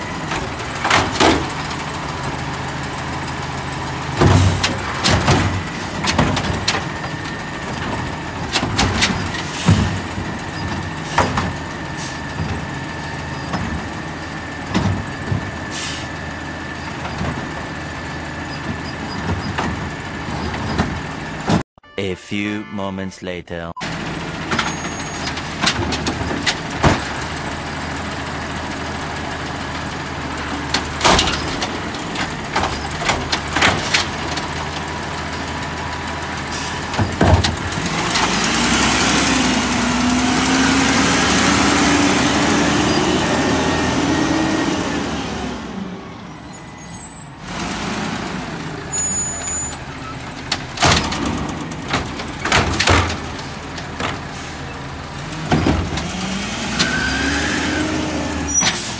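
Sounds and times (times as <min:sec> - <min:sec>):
knocks and bangs of carts: 0:00.0 - 0:21.6, 0:23.9 - 0:46.8, 0:47.5 - 0:58.9
garbage truck engine running: 0:00.0 - 0:21.7, 0:23.8 - 0:58.9.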